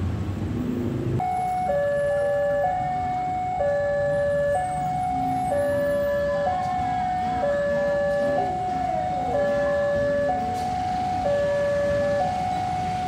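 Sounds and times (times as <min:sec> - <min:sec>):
two-tone level crossing alarm: 0:01.2 - 0:13.0.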